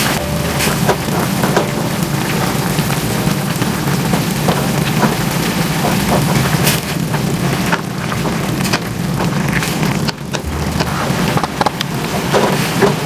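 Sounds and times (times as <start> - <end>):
low hum: 0.0 - 12.8
food sizzling in hot oil: 0.0 - 13.0.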